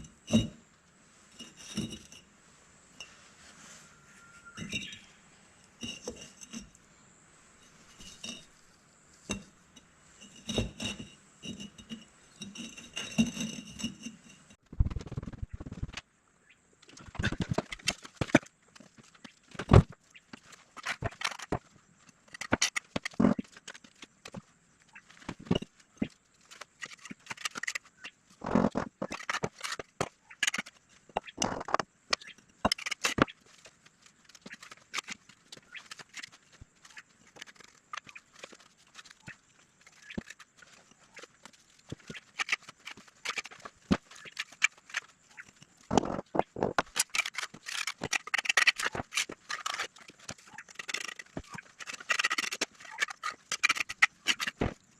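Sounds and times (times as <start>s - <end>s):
knocks clicks and scrapes: 0.0s - 2.2s, 4.4s - 6.8s, 7.6s - 16.0s, 16.8s - 54.9s.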